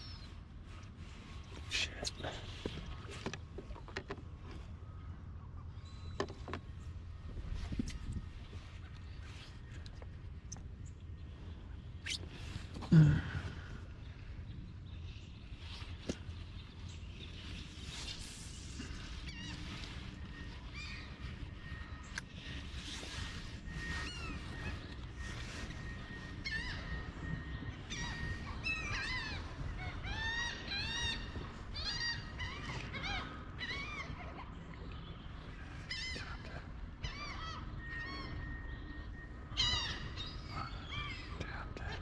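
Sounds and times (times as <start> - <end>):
steady low rumble: 0.0 - 42.0
birds calling: 1.7 - 42.0.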